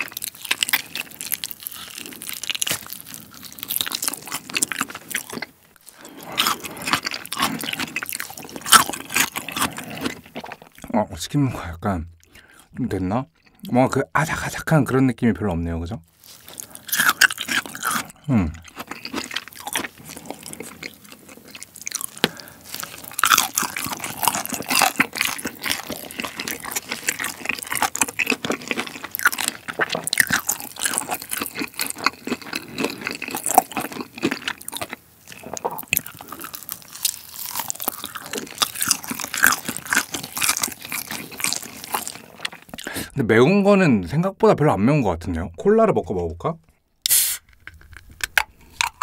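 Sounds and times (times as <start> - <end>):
chewing crunchy fried chicken: 0.0 - 10.9, 16.2 - 43.1, 47.6 - 49.0.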